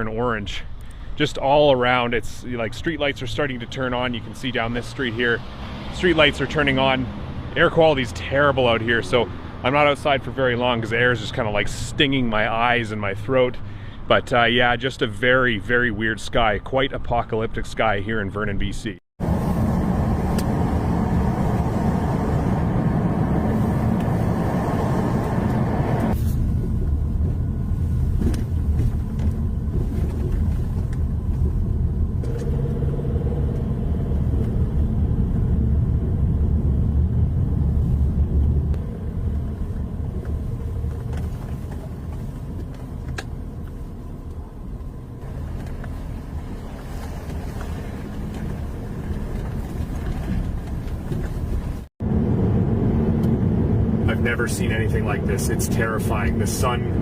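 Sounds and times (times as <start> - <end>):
car road and engine rumble: 0.0 - 17.6, 19.2 - 57.0.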